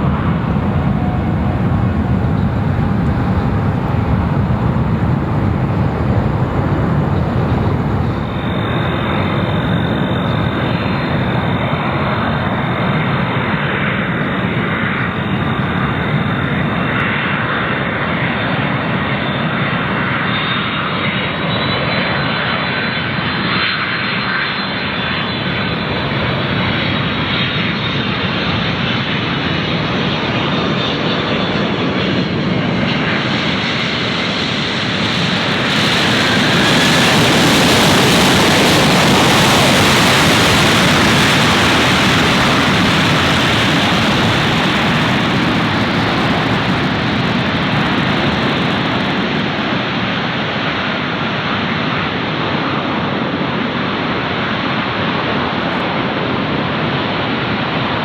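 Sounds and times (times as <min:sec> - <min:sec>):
high engine whine: 0:00.0 - 0:31.6, 0:32.2 - 0:50.4
jet engines rushing: 0:00.0 - 0:50.8.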